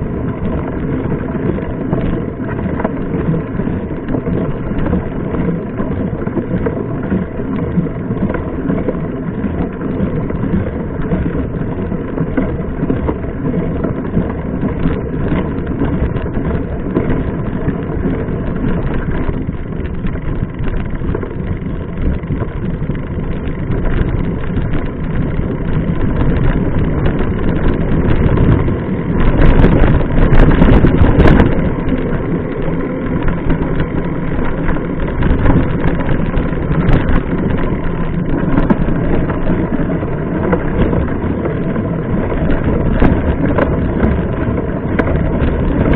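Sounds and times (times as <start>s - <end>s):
mountain bike rumble: 0.0s - 45.9s
wind on microphone: 0.0s - 45.9s.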